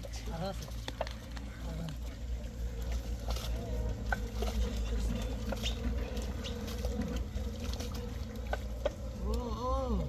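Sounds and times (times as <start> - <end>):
mud squelching: 0.0 - 10.0
small splashes in muddy water: 0.0 - 10.0
steady low rumble: 0.0 - 10.0.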